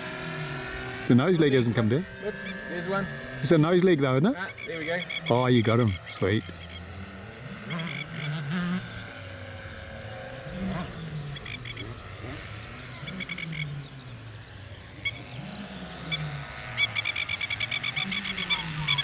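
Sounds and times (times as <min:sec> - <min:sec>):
model plane motor and propeller buzz: 0:00.0 - 0:19.0.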